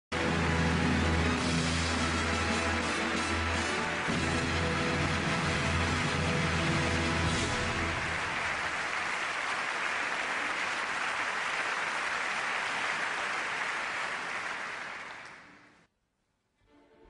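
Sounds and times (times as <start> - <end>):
audience applauding: 0.2 - 15.8.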